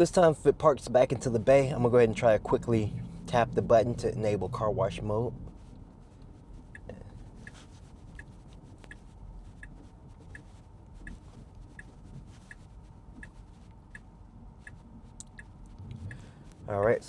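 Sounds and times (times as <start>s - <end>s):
low car cabin hum: 0.0s - 17.0s
turn signal ticking: 0.0s - 17.0s.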